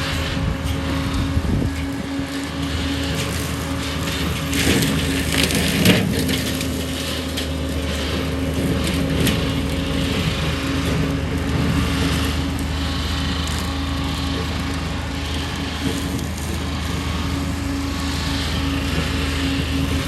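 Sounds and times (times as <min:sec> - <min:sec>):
mower engine running: 0:00.0 - 0:20.0.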